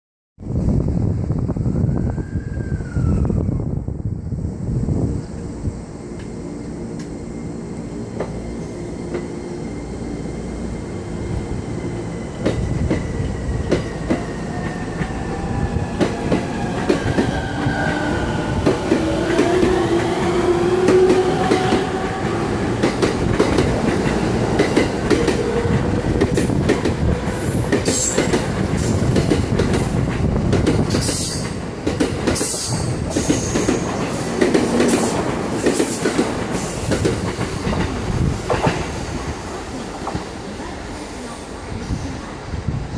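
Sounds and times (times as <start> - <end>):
train running noise: 0.5 - 42.9.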